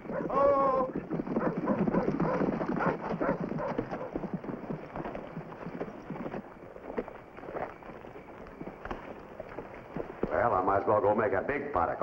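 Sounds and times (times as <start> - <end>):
horse hooves clopping on dirt: 0.0 - 12.0.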